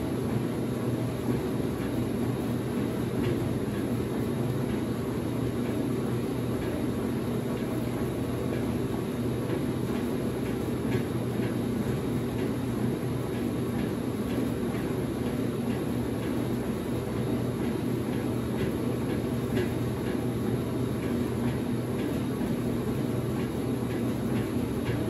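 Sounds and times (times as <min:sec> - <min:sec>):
washing machine motor humming: 0:00.0 - 0:25.0.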